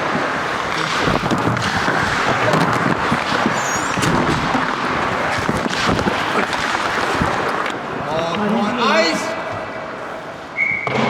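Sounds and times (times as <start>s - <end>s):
sticks and puck clacking: 0.0s - 10.2s
skates scraping on ice: 0.0s - 10.6s.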